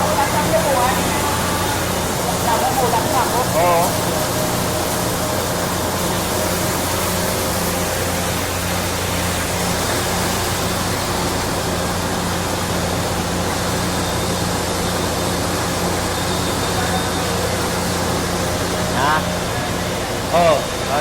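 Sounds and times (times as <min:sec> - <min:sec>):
rice mill machine running: 0:00.0 - 0:21.0.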